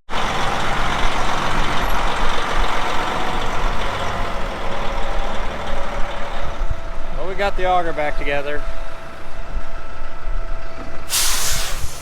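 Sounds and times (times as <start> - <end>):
diesel farm machinery running: 0.1 - 12.0.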